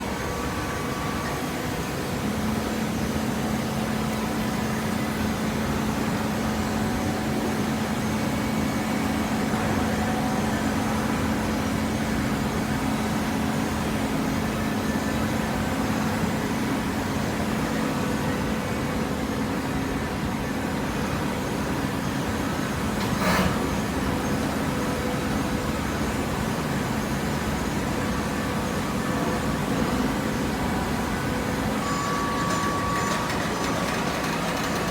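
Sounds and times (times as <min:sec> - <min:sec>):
baler machine drone: 0:00.0 - 0:34.9.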